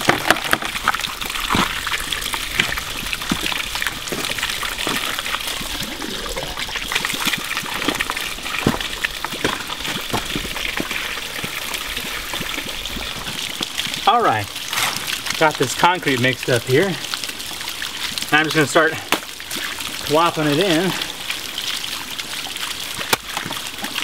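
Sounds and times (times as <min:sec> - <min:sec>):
small knocks and splashes: 0:00.0 - 0:24.0
water pouring from bottle: 0:00.0 - 0:24.0
water trickling: 0:00.0 - 0:24.0.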